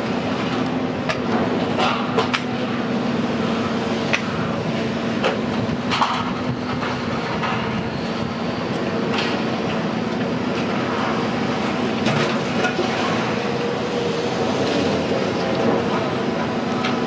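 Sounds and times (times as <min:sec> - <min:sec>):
steady mechanical rumble: 0:00.0 - 0:17.0.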